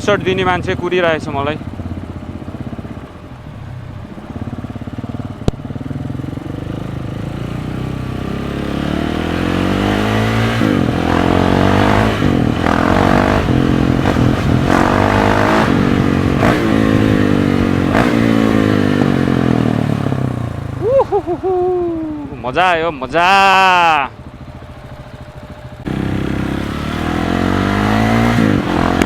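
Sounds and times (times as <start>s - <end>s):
motorcycle engine revving through gears: 0.0s - 20.8s, 24.2s - 29.0s.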